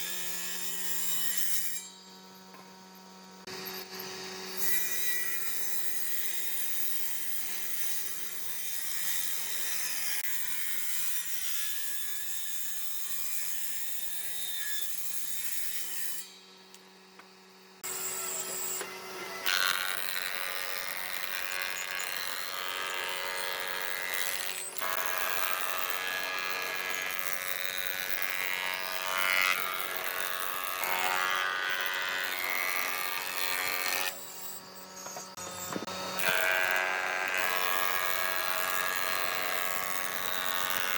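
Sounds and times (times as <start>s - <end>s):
power tool cutting wood: 0.0s - 40.9s.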